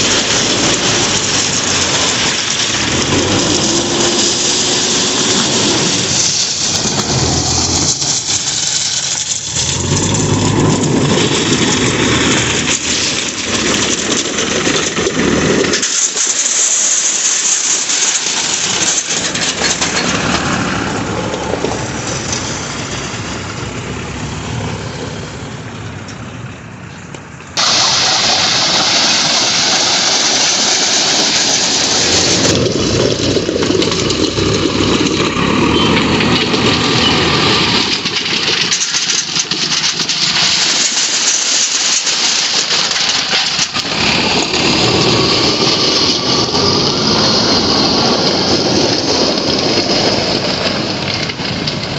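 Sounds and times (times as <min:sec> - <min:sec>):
backhoe diesel engine: 0:00.0 - 0:51.9
tractor diesel engine: 0:00.0 - 0:51.9.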